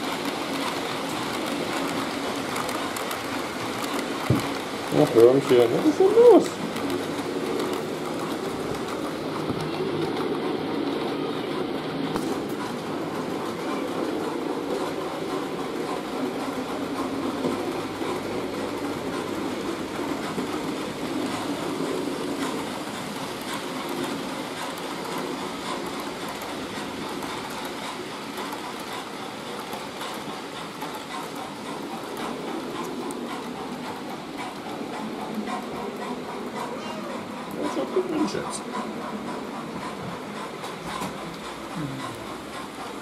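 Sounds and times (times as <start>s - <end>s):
model trains rumbling on rails: 0.0s - 43.0s.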